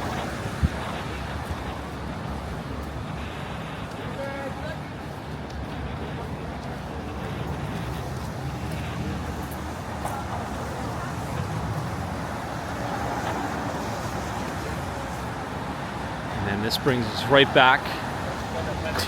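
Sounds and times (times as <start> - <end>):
city hum: 0.0 - 19.0
passing vehicles rumbling: 0.0 - 19.0.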